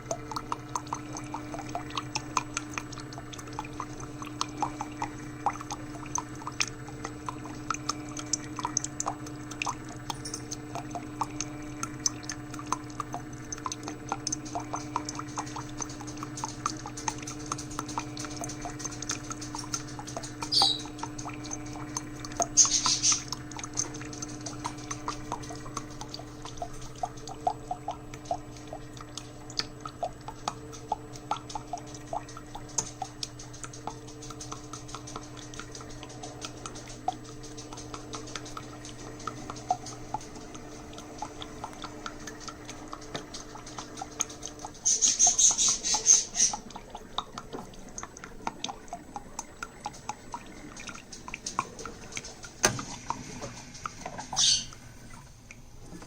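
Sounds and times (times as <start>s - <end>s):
coffee dripping into cup: 0.0s - 55.6s
coffee machine hissing sputters: 0.0s - 56.0s
coffee machine humming: 0.0s - 56.0s.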